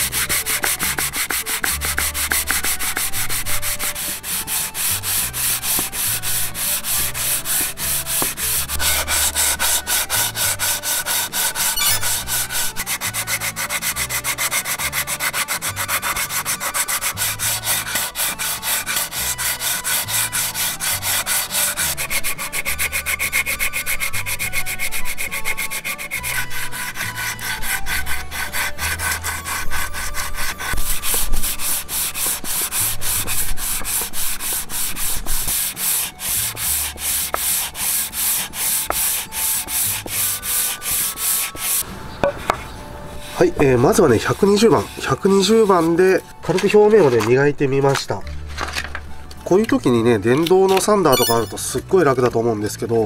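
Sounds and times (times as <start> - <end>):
sandpaper rubbing on wood: 0.0 - 41.8, 43.2 - 47.3.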